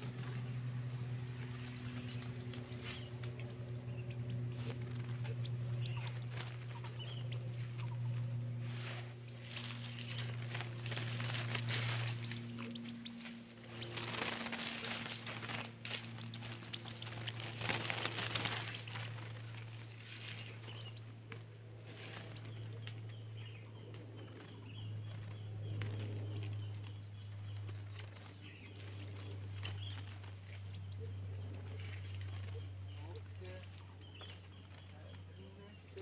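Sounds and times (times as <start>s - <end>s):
rustling and crackling in brush: 0.0s - 36.0s
steady low hum: 0.0s - 36.0s
bird chirps: 1.5s - 21.2s, 21.9s - 36.0s.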